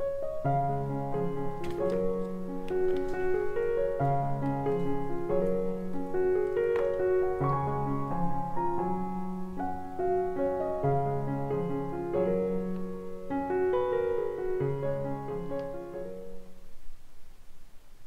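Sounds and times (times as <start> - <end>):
slow piano music: 0.0 - 17.5.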